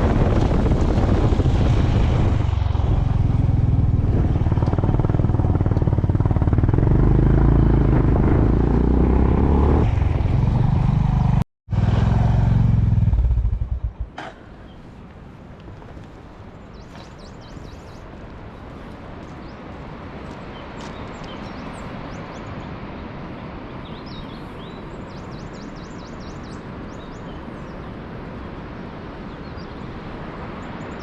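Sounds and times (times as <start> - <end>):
quiet outdoor background: 2.0 - 31.0.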